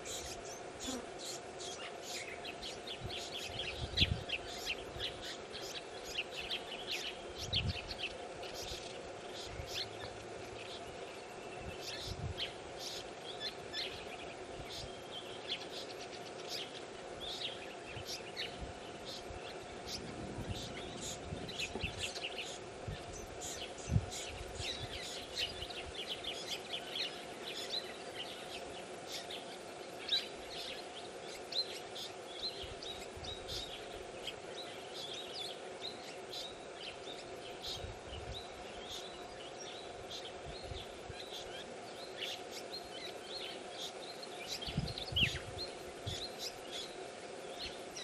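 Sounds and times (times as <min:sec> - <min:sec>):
birds chirping: 0:00.0 - 0:48.0
steady low hum: 0:00.0 - 0:48.0.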